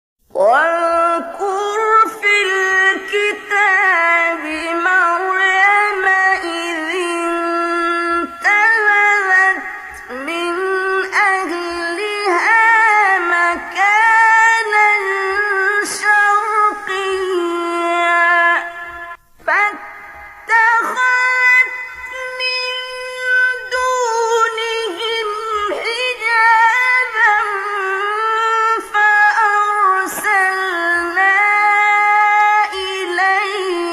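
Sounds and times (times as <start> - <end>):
high voice singing: 0.3 - 33.9.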